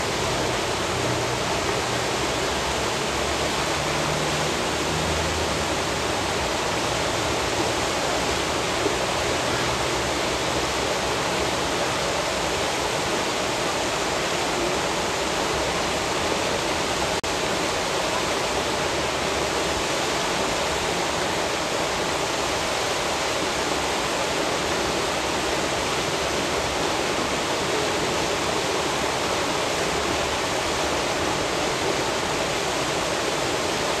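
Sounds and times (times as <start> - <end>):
churning water rushing: 0.0 - 34.0.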